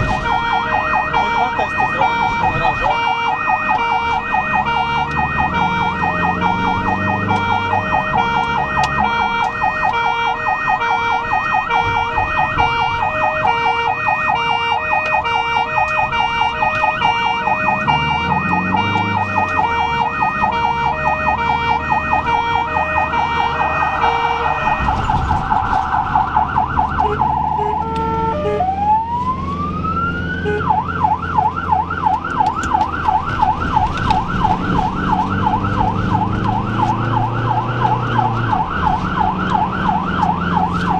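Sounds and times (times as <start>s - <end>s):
ambulance siren warbling: 0.0s - 40.9s
engine running: 0.0s - 40.9s.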